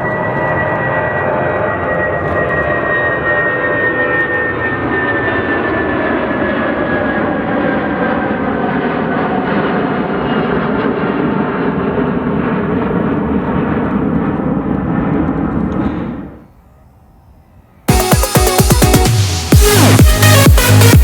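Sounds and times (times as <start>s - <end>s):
jet engines at takeoff power: 0.0s - 17.9s.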